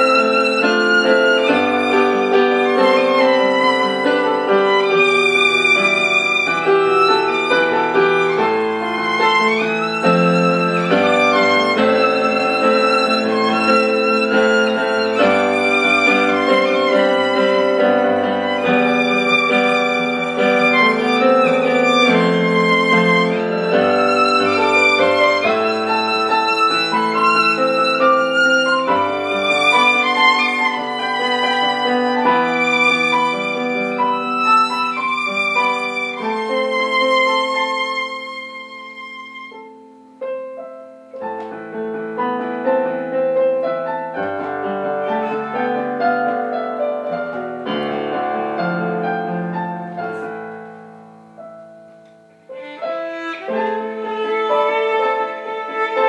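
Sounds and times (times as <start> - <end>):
violin playing slow melody: 0.0 - 40.2, 43.6 - 50.4, 52.4 - 56.0.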